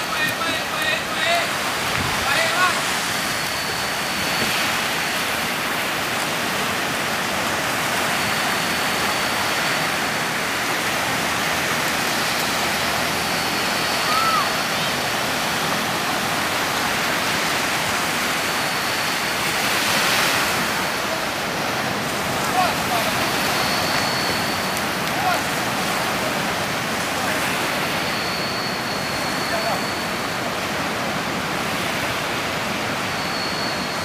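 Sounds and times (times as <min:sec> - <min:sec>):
surf breaking on beach: 0:00.0 - 0:33.2.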